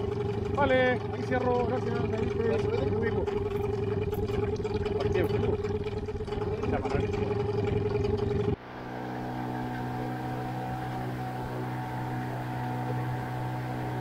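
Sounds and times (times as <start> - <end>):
outboard motor droning: 0.0 - 14.0
water rushing past hull: 0.0 - 14.0.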